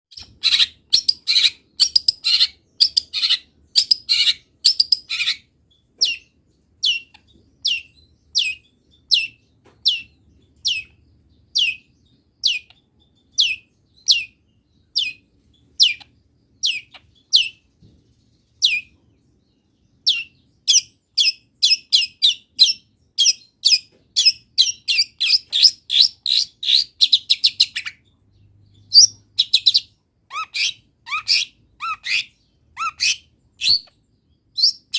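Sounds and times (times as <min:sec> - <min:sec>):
bird singing: 0:00.1 - 0:34.9.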